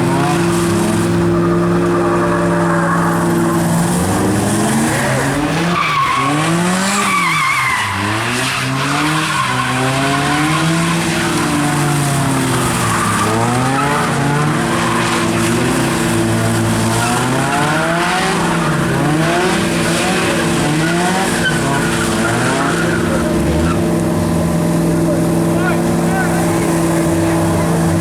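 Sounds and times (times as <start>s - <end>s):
car engine revving hard: 0.0s - 28.0s
tyres skidding on wet pavement: 0.0s - 28.0s.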